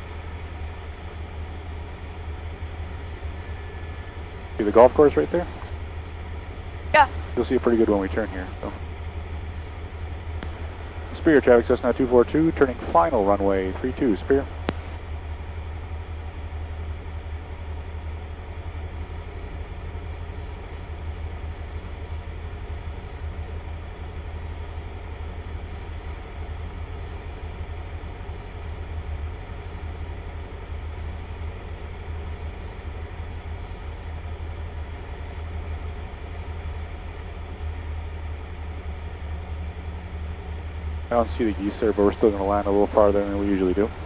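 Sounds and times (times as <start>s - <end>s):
light aircraft engine drone: 0.0s - 44.0s.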